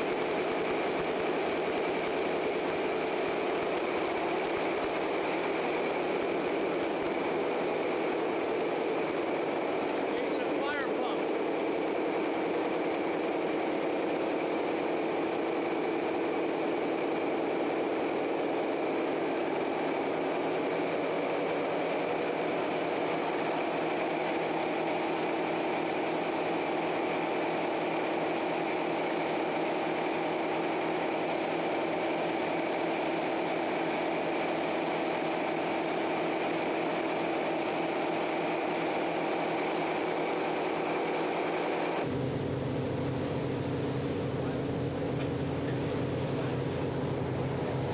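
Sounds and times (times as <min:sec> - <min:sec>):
diesel engines droning: 0:00.0 - 0:47.9
high steady whine: 0:00.0 - 0:47.9.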